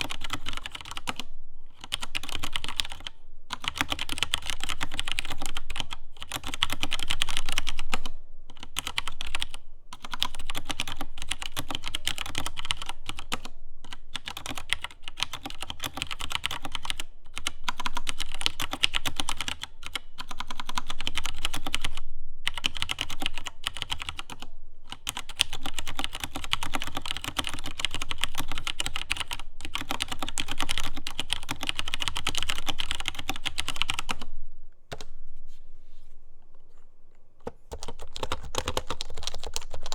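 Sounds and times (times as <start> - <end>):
mechanical keyboard typing: 0.0 - 34.3, 37.4 - 39.9.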